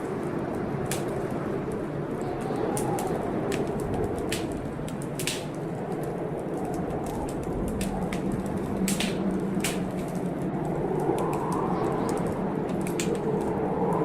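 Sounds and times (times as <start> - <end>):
rain: 0.0 - 14.0
wind: 0.0 - 14.0
wood fire crackling: 0.0 - 14.0.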